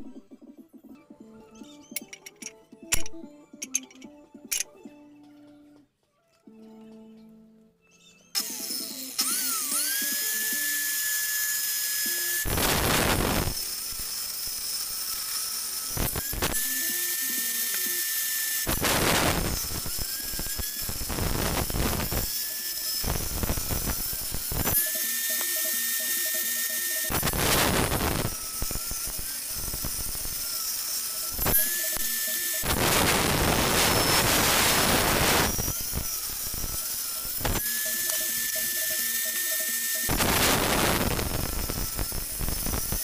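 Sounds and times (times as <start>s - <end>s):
table saw blade whining: 7.9s - 43.0s.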